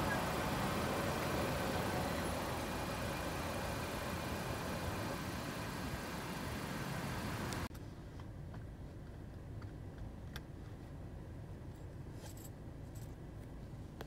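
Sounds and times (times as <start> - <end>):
low steady hum: 0.0 - 14.0
outdoor traffic noise: 0.0 - 14.0.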